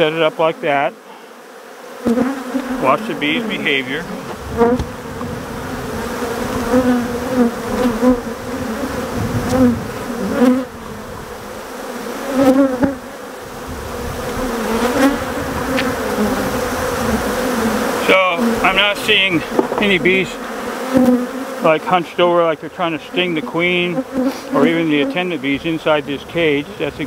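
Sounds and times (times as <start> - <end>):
bees buzzing: 0.0 - 27.0
bees flying close by: 0.0 - 27.0.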